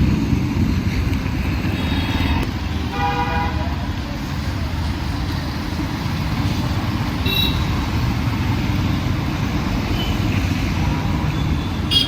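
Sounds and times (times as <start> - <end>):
road traffic rumble: 0.0 - 12.0
vehicles passing: 0.0 - 12.0.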